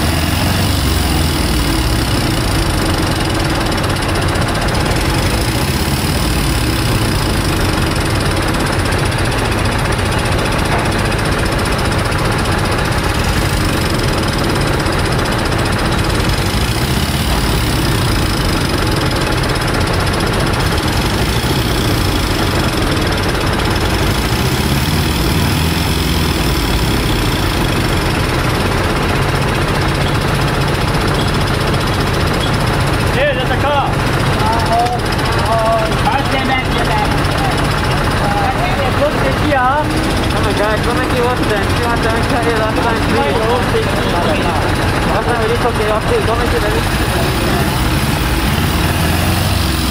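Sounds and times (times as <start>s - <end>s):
heavy vehicle engine running: 0.0s - 49.9s.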